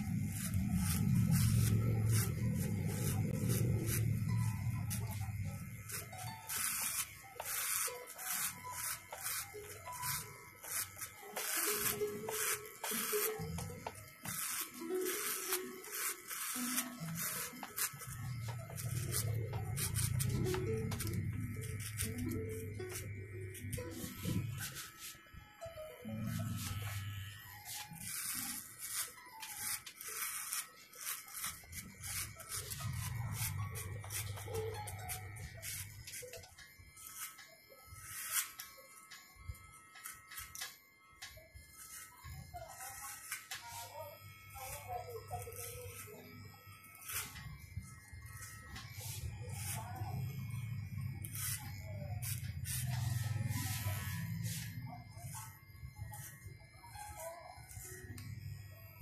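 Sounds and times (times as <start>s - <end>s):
clipper blades rasping through hair: 0.0s - 59.0s
electric hair clippers buzzing: 0.0s - 59.0s.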